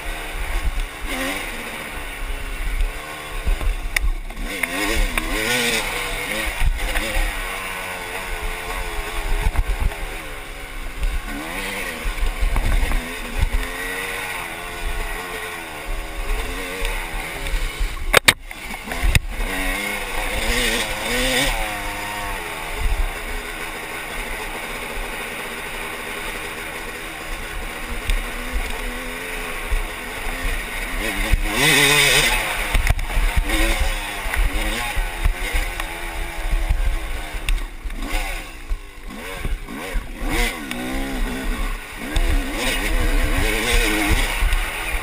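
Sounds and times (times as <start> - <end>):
motocross bike engine revving: 0.0 - 45.0.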